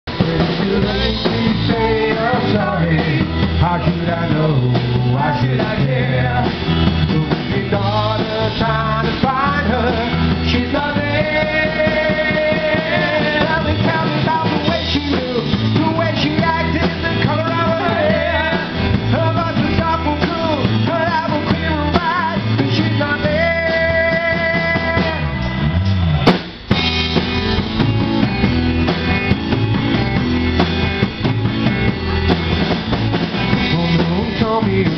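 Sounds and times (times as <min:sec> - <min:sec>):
drum kit: 0:00.0 - 0:34.9
electric guitar: 0:00.0 - 0:34.9.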